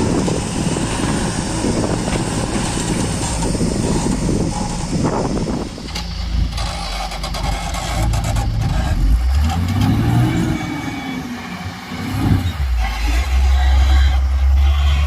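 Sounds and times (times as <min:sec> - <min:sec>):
diesel engine revving under load: 0:00.0 - 0:15.0.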